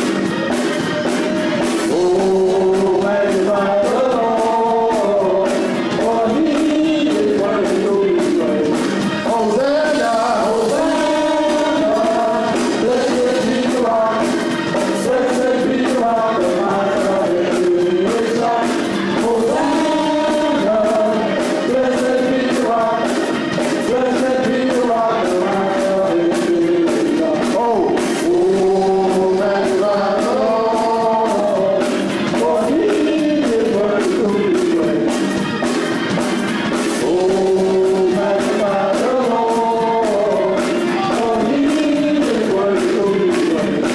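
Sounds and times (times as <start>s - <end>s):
instrumental accompaniment: 0.0s - 43.9s
voices singing gospel music: 0.0s - 43.9s.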